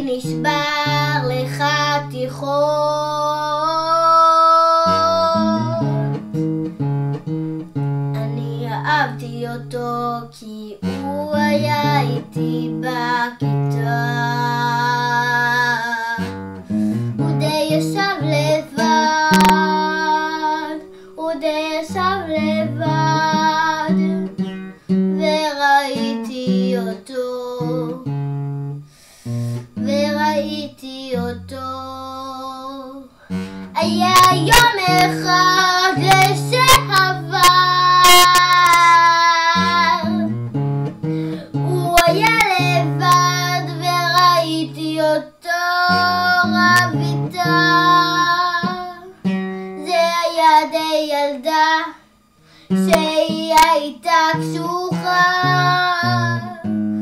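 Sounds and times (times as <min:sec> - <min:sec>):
girl singing: 0:00.0 - 0:06.4, 0:08.0 - 0:28.3, 0:29.8 - 0:40.5, 0:41.1 - 0:57.0
acoustic guitar: 0:00.0 - 0:57.0.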